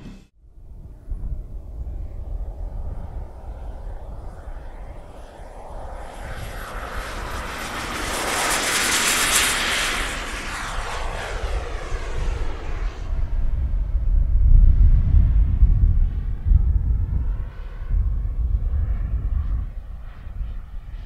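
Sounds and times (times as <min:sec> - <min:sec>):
model jet engine whine: 0:00.0 - 0:21.0.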